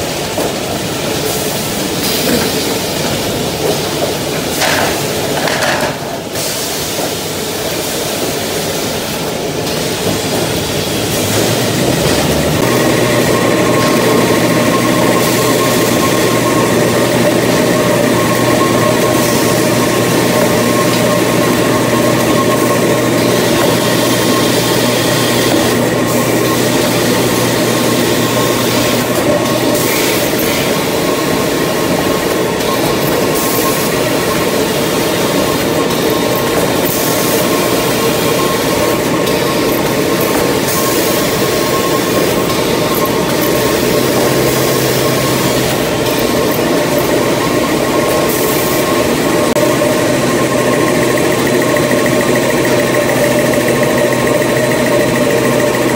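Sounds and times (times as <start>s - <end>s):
high machine whine: 0.0s - 55.9s
production machinery running: 0.0s - 55.9s.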